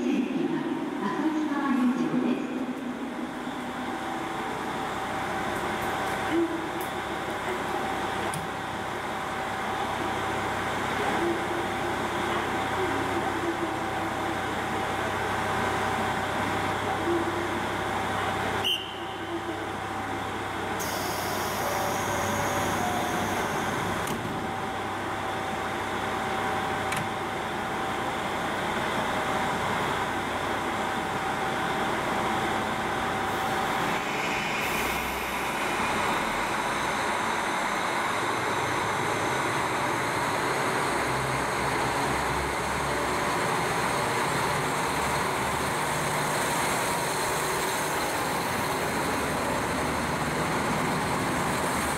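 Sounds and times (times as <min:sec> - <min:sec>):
diesel railcar engine: 0:00.0 - 0:51.9.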